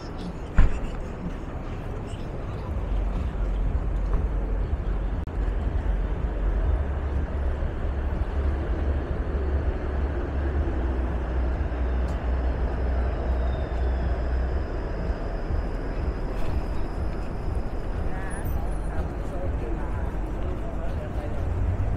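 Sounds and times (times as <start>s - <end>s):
traffic rumble: 0.0s - 21.9s.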